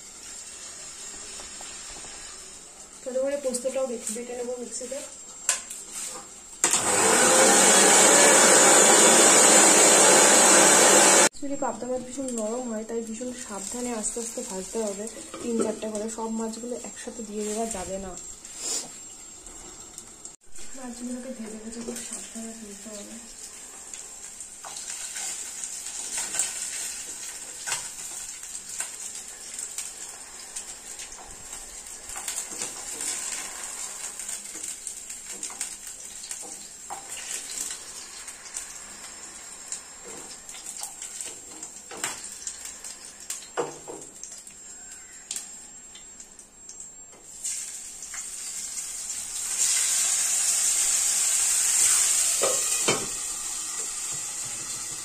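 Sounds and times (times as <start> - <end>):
fish sizzling in hot oil: 0.0 - 6.7, 11.2 - 55.0.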